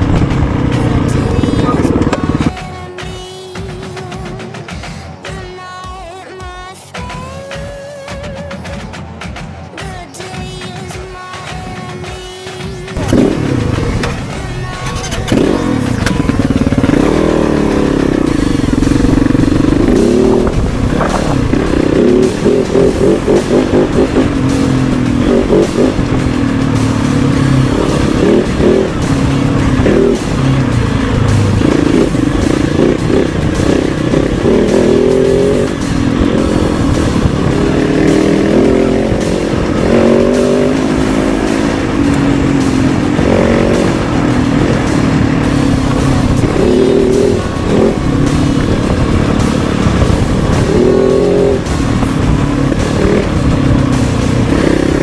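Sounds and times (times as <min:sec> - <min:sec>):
motorcycle engine revving: 0:00.0 - 0:02.6, 0:12.5 - 0:55.0.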